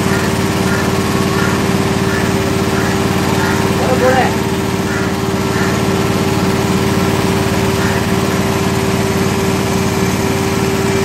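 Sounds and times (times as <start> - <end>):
milking machine pump humming: 0.0 - 11.0.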